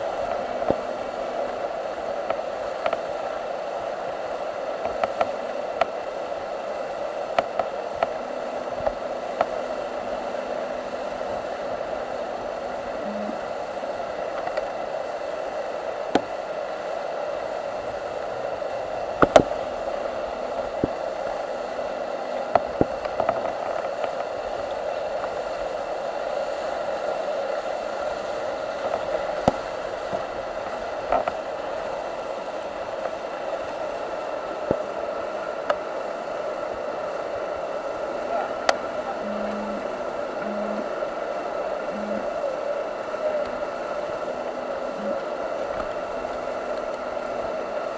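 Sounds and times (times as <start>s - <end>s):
whitewater rapid rushing: 0.0s - 47.9s.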